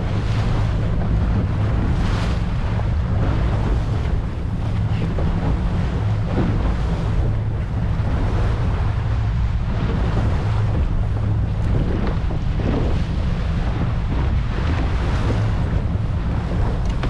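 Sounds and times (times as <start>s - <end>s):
low engine rumble: 0.0s - 17.0s
water rushing past hulls: 0.0s - 17.0s
wind buffeting microphone: 0.0s - 17.0s.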